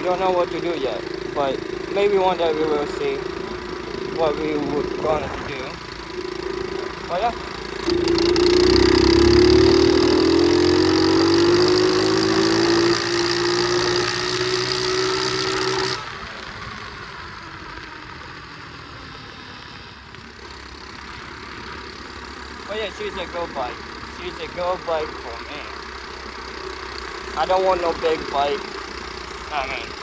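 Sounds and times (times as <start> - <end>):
pit bike engine running: 0.0 - 30.0.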